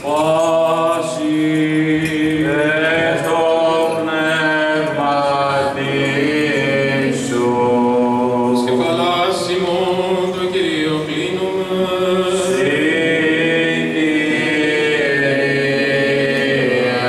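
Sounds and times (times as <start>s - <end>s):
men singing a slow chant: 0.0s - 17.0s.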